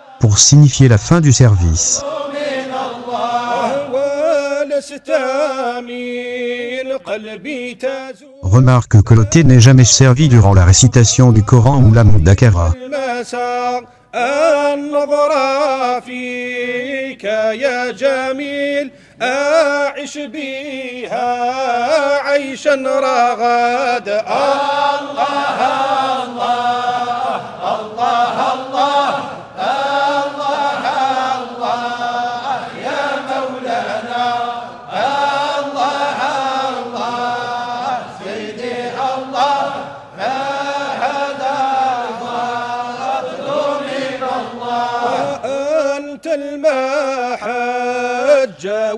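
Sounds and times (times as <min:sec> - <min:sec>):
men chanting in unison: 0:00.0 - 0:08.5, 0:09.1 - 0:48.9.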